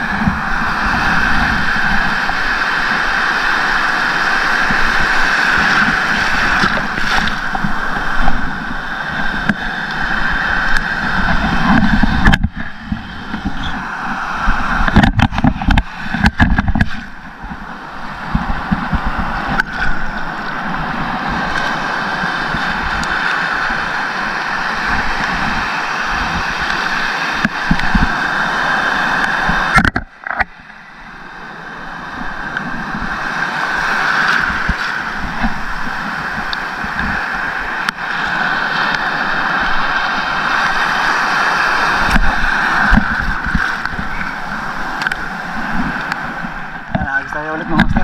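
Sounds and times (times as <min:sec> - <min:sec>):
sea water sloshing: 0:00.0 - 0:48.0.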